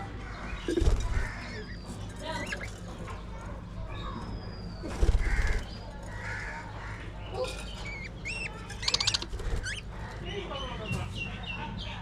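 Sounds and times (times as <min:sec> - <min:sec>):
budgerigars chattering: 0:00.1 - 0:03.1, 0:05.2 - 0:12.0.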